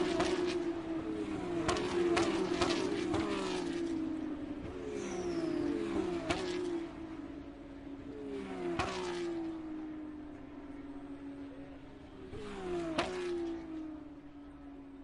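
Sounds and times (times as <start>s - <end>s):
race cars passing by: 0.0s - 15.0s.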